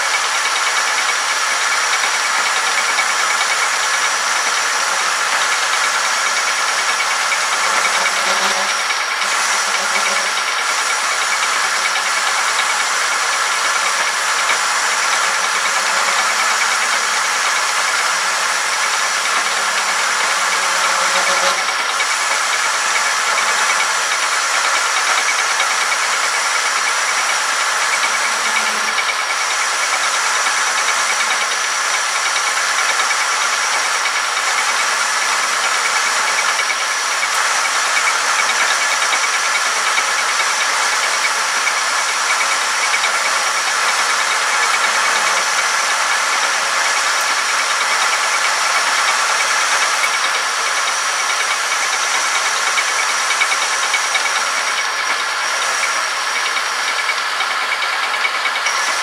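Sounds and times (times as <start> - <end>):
hissing metal cutting: 0.0 - 59.0
lathe running: 0.0 - 59.0.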